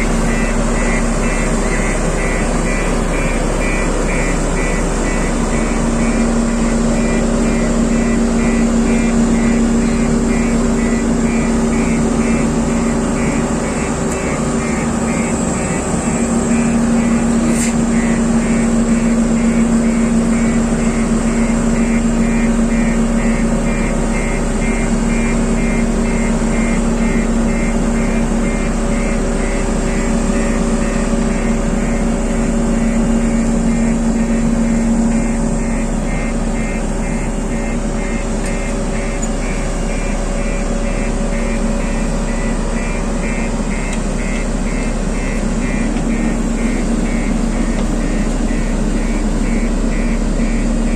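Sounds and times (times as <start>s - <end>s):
road roller diesel engine: 0.0s - 50.9s.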